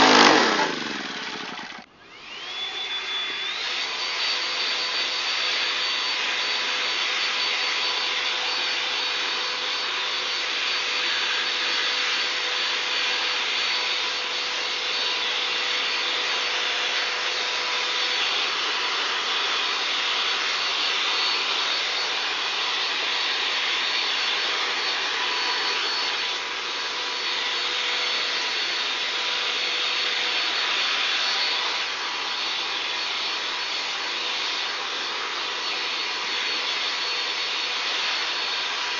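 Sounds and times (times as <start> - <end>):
leaf blower whining: 0.0 - 38.9.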